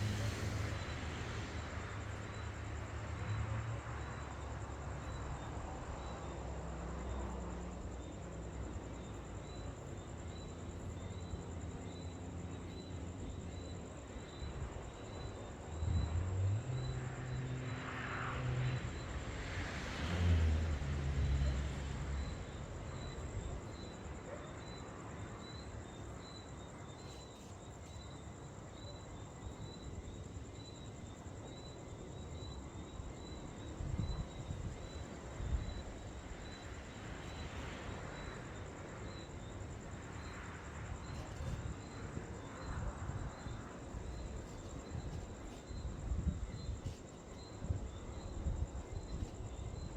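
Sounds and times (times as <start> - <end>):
high insect trill: 0.0 - 49.9.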